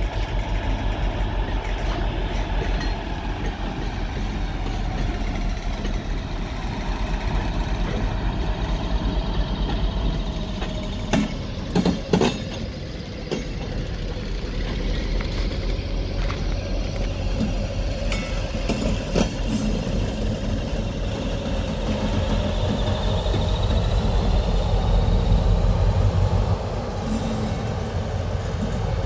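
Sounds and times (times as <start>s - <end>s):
diesel locomotive engine running: 0.0s - 29.0s.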